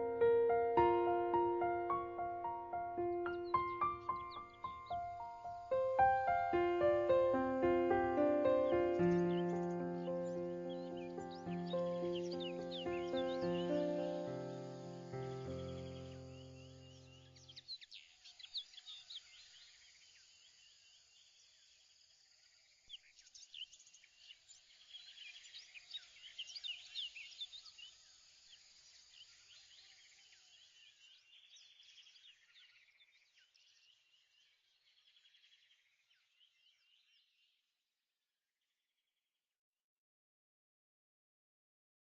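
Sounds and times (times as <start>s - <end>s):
small birds chirping and trilling: 0.0s - 37.6s.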